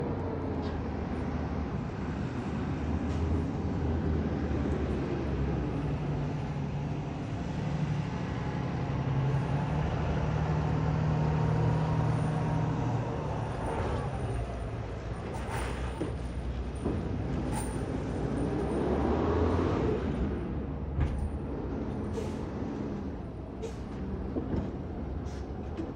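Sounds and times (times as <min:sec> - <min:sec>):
heavy vehicle engine running: 0:00.0 - 0:25.9.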